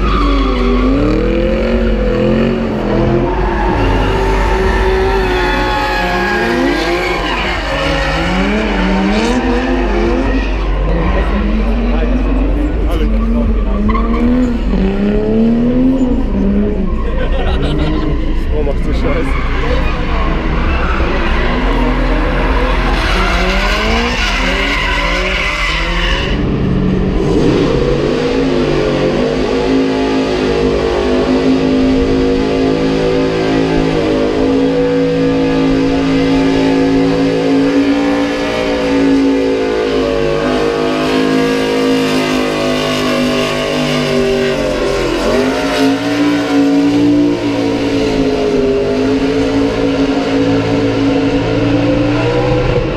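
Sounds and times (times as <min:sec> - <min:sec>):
car engine at high revs: 0:00.0 - 0:52.9
car engines revving: 0:00.0 - 0:52.9
cars sliding: 0:00.0 - 0:52.9.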